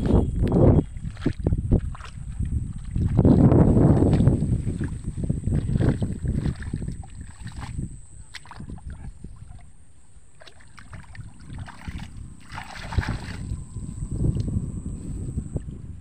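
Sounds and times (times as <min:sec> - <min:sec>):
hands splashing in muddy water: 0:00.9 - 0:09.7, 0:10.4 - 0:14.5.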